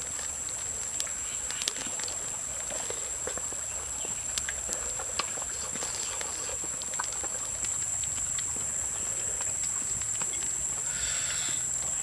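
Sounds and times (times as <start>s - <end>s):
insects droning: 0.0s - 12.0s
small clicks and ticks: 0.0s - 12.0s.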